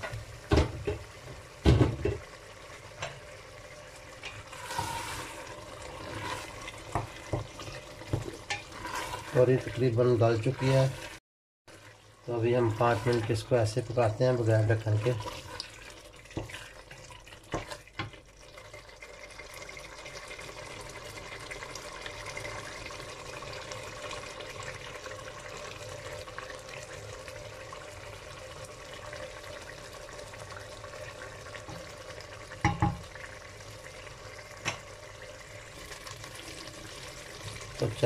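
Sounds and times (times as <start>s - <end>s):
curry bubbling and sizzling: 0.0s - 38.0s.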